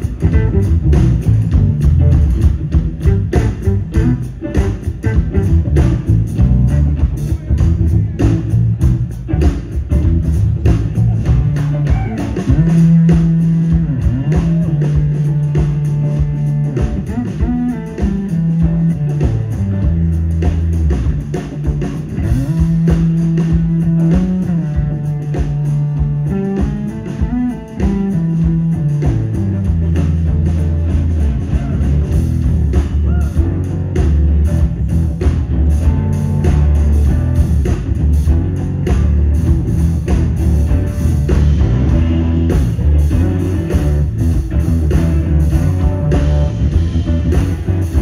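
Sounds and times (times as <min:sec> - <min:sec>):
drum kit: 0:00.0 - 0:48.0
electric guitars: 0:00.0 - 0:48.0.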